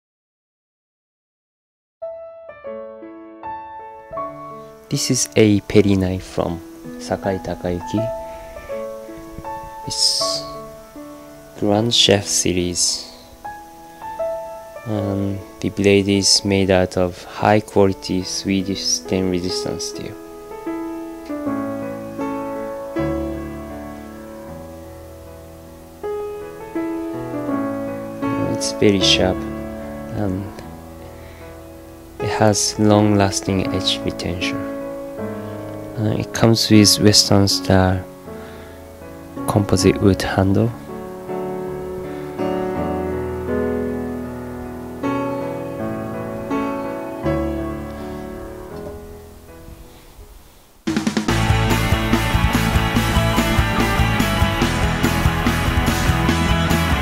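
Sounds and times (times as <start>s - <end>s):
piano chords: 2.0s - 57.0s.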